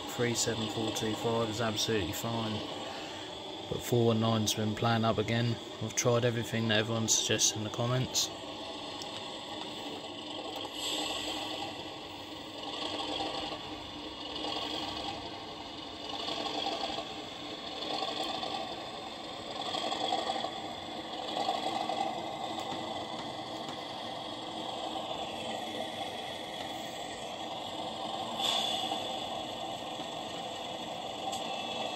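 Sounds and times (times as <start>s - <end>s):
diesel engine sound through small speaker: 0.0s - 31.9s.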